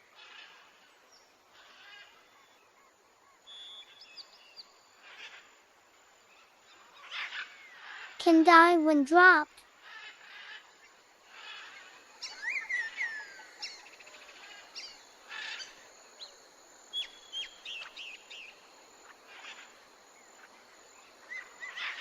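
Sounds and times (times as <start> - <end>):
faint outdoor hiss: 0.0 - 22.0.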